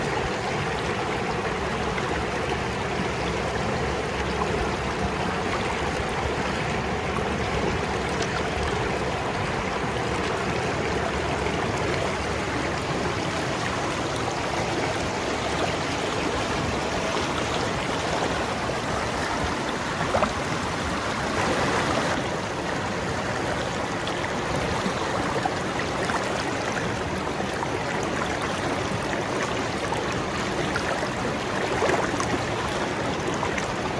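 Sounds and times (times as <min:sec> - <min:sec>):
river water rushing over rocks: 0:00.0 - 0:33.9.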